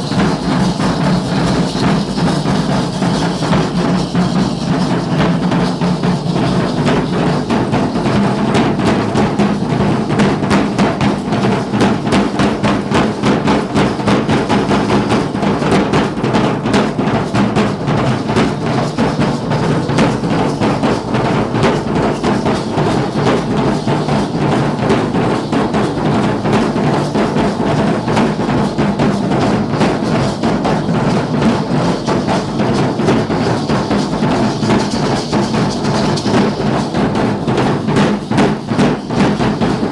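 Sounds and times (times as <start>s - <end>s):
drums beating steady rhythm: 0.0s - 39.9s.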